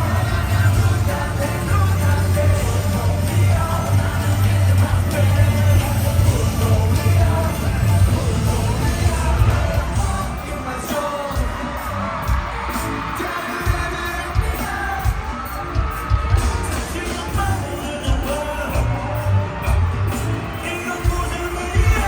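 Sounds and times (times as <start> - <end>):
crowd yelling and cheering: 0.0 - 22.0
live pop music with singing: 0.0 - 22.0.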